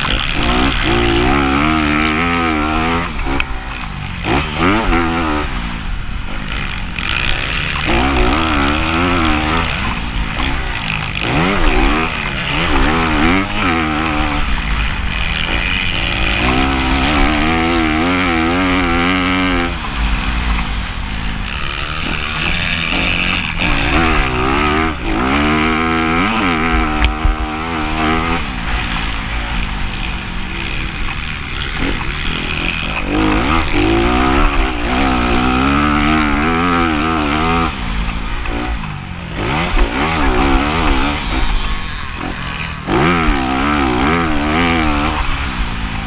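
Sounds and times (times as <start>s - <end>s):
dirt bike engines racing: 0.0s - 46.0s.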